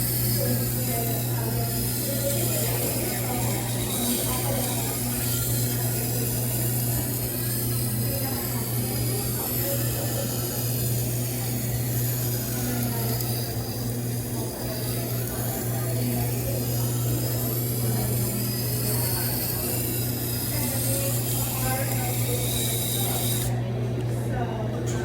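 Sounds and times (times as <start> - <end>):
knife grinding on wet stone: 0.0 - 23.5
sharpening machine humming: 0.0 - 24.0.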